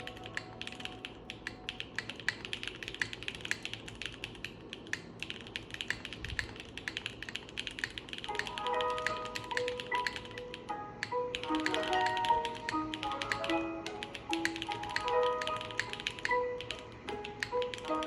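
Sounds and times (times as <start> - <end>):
fast mechanical keyboard typing: 0.0 - 18.0.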